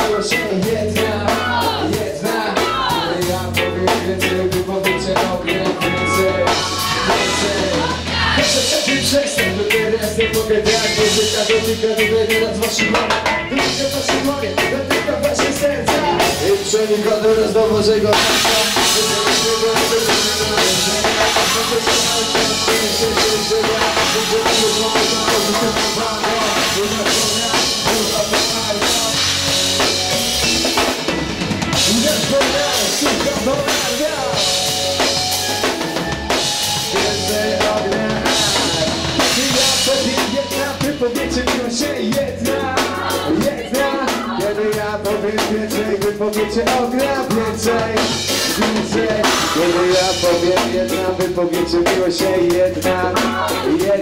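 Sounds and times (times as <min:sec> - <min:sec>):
drum kit: 0:00.0 - 0:54.0
live rock band: 0:00.0 - 0:54.0.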